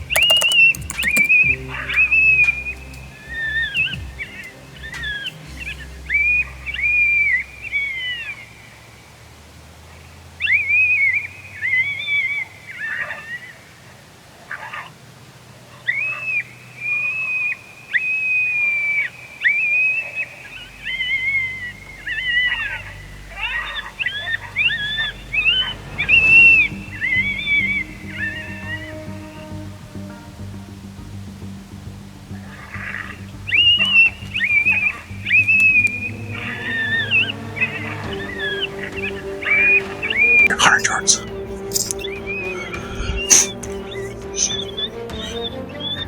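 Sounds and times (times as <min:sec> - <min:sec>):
coyotes howling and yipping: 0:01.5 - 0:30.8, 0:32.1 - 0:46.0.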